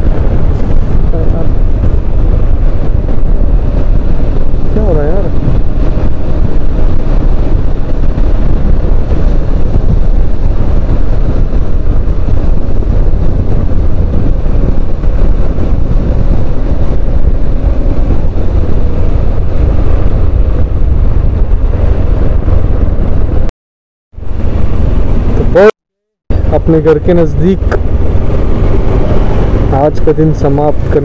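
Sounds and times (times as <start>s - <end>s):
motorcycle engine: 0.0s - 23.5s, 24.1s - 31.0s
road noise: 0.0s - 23.5s, 24.1s - 31.0s
wind buffeting microphone: 0.0s - 23.5s, 24.1s - 25.7s, 26.3s - 31.0s.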